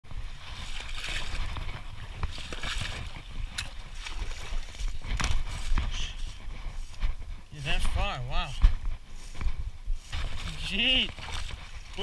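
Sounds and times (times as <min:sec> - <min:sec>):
low rumble of wind and handling: 0:00.0 - 0:12.0
splashing footsteps in water: 0:00.1 - 0:08.0, 0:08.6 - 0:12.0.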